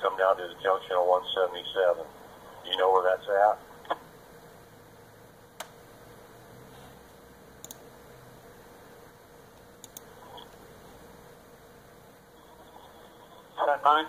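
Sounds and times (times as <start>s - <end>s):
faint hum: 0.0s - 14.0s
low steady hiss: 0.0s - 14.0s.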